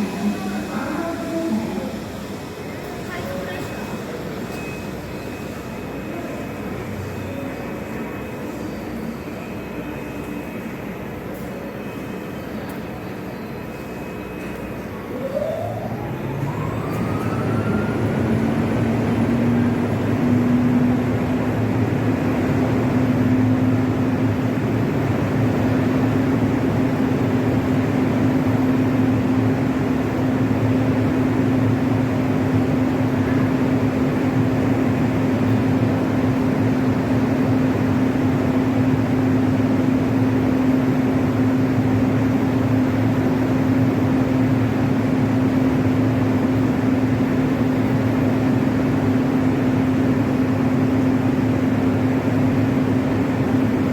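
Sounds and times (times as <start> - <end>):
train running noise: 0.0 - 53.9
train whine and hum: 0.0 - 53.9.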